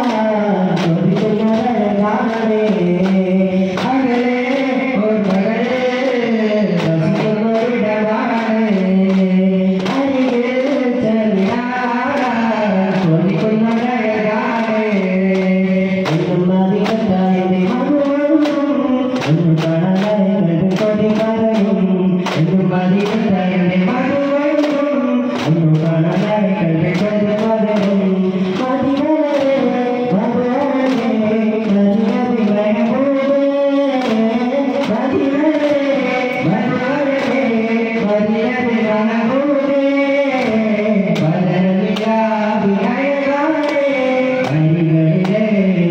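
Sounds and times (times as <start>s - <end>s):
frame drum slaps: 0.0s - 45.9s
men chanting in unison: 0.0s - 45.9s.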